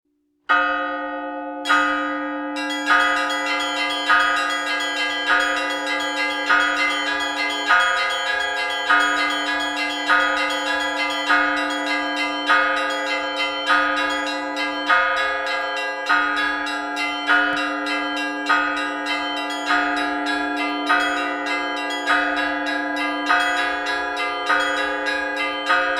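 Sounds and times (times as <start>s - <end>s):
higher church bells ringing: 0.5s - 25.9s
large bell humming: 2.6s - 25.9s.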